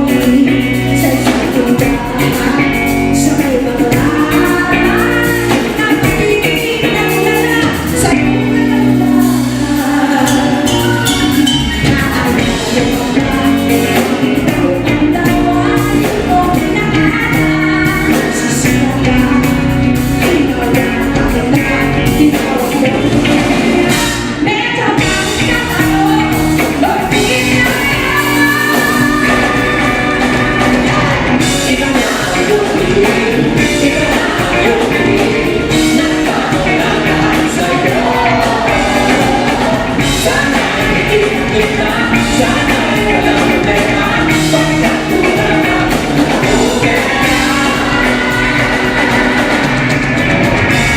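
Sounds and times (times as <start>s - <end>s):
live rock band playing: 0.0s - 50.9s
person singing: 0.0s - 50.9s.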